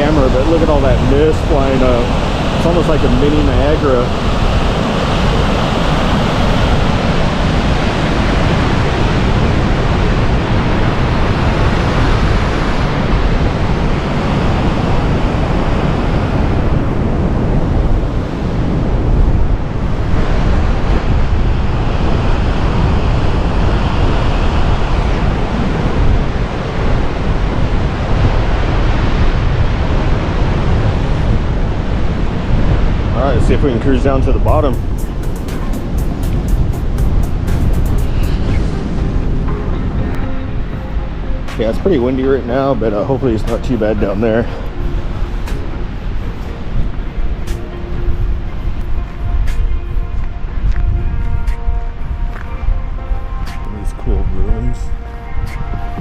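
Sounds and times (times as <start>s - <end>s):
waterfall roaring: 0.0s - 49.4s
wind buffeting microphone: 0.0s - 56.0s.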